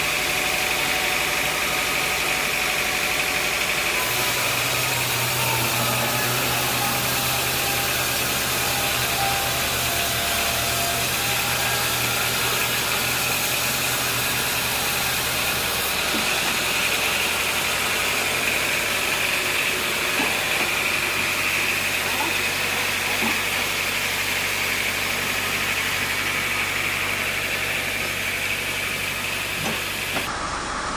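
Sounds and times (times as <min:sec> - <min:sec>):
sawmill machinery droning: 0:00.0 - 0:30.9.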